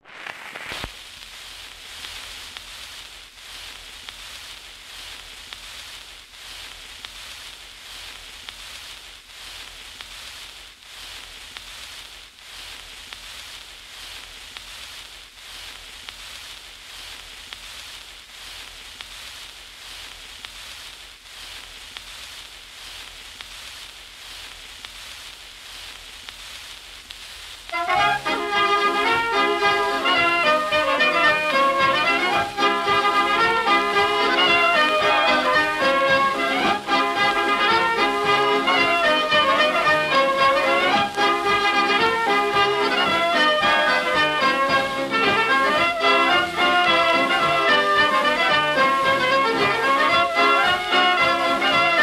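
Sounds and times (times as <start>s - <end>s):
crackling hiss with clicks: 0.0s - 52.0s.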